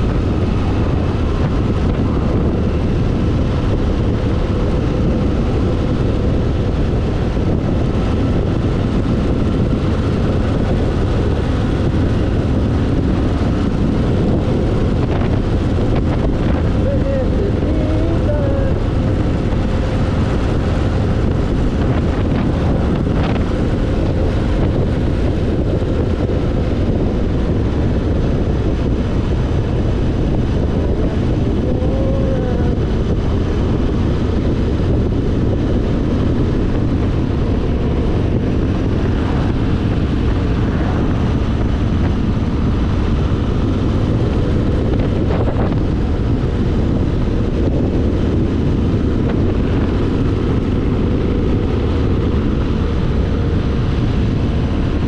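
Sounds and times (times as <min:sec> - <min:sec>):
motorcycle engine cruising: 0:00.0 - 0:55.0
wind rushing on microphone: 0:00.0 - 0:55.0.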